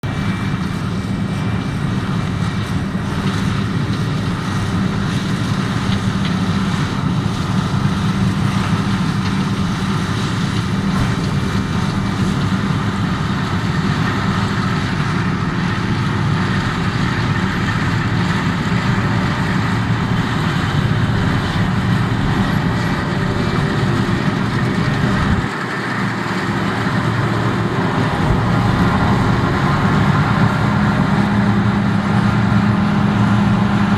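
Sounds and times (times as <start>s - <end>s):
combine harvester droning: 0.0s - 33.9s.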